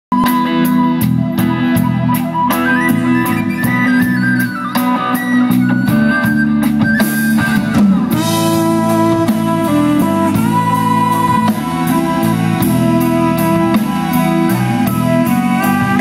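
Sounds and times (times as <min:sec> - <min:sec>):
drums with cymbal beat: 0:00.1 - 0:16.0
electric guitar: 0:00.1 - 0:16.0
sustained lead melody: 0:00.2 - 0:16.0.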